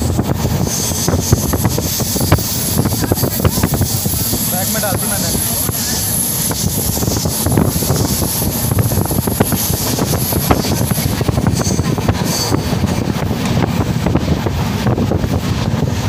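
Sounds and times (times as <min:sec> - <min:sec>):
train wheels rumbling on rails: 0:00.0 - 0:16.0
wind rushing over microphone: 0:00.0 - 0:16.0.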